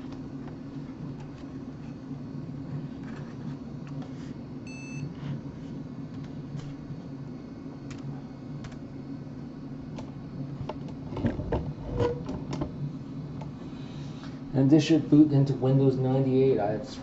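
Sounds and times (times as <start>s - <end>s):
laptop hum: 0.0s - 17.0s.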